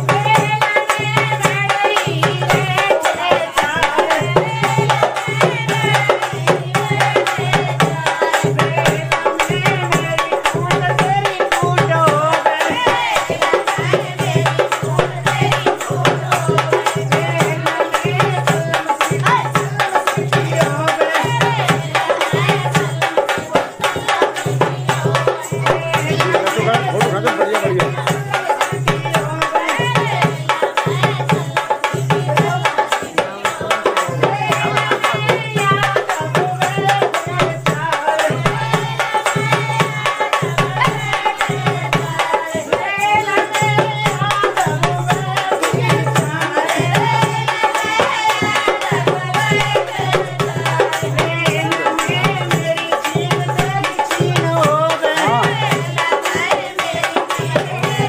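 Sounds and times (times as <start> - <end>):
person singing folk song: 0.0 - 58.0.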